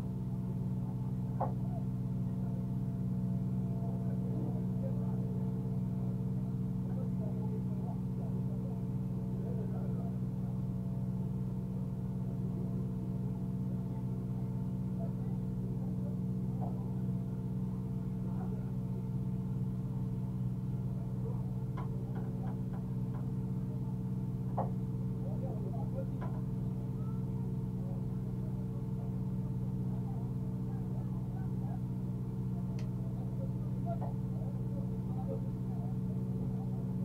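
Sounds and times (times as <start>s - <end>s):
car engine running at low revs: 0.0s - 37.0s.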